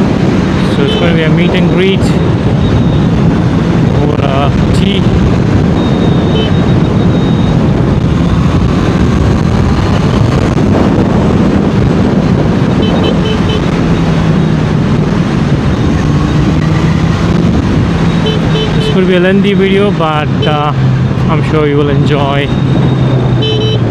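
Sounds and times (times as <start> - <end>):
wind noise on microphone: 0.0 - 23.9.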